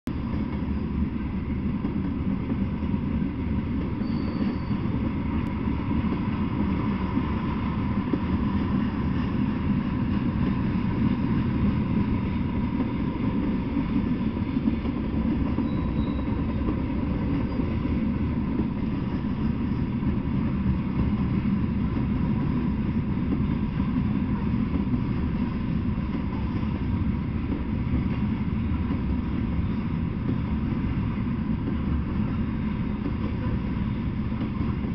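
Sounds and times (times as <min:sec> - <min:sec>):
freight train wheels rumbling: 0:00.1 - 0:34.9.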